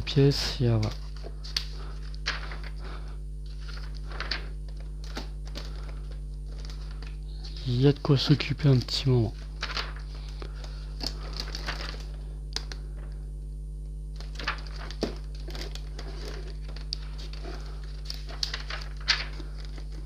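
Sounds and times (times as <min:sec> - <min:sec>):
steady low hum: 0:00.0 - 0:20.0
paper pages rustling: 0:00.7 - 0:02.8, 0:03.4 - 0:13.0, 0:14.2 - 0:20.0.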